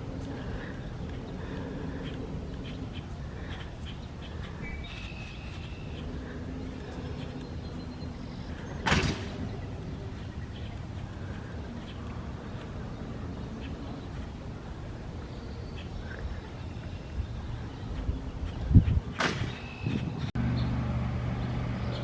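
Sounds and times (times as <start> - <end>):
low background rumble: 0.0 - 19.1.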